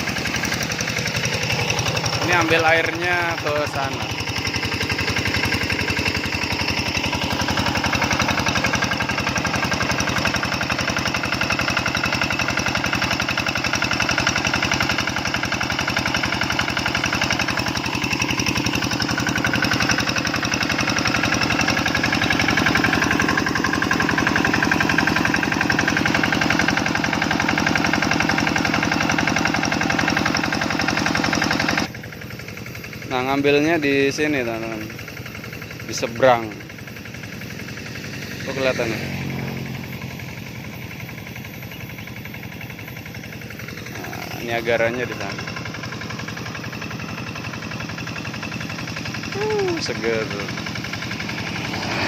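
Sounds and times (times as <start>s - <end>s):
diesel engine driving water pump: 0.0s - 52.0s.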